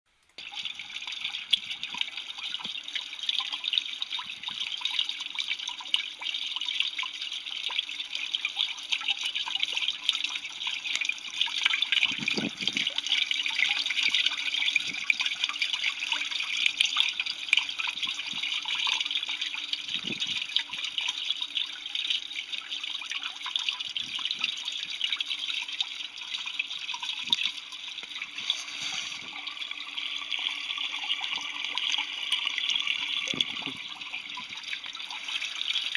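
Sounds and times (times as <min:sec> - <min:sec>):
water gurgles: 0:00.4 - 0:35.9
water swirling and draining: 0:00.4 - 0:35.9.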